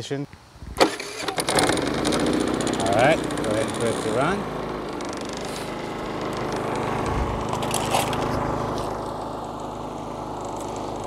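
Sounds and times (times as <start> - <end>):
generator engine running: 0.8 - 11.0.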